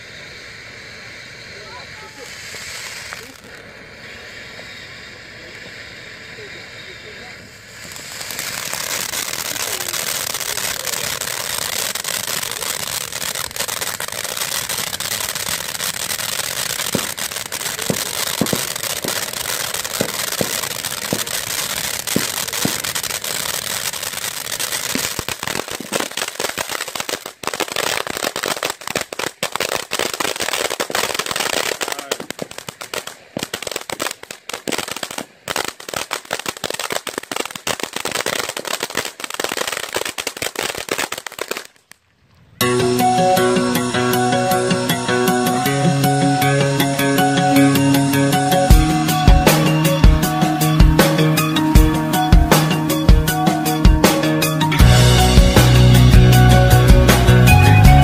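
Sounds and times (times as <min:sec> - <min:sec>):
firework crackling pops: 0:00.0 - 0:58.0
firework fountain hissing: 0:00.0 - 0:58.0.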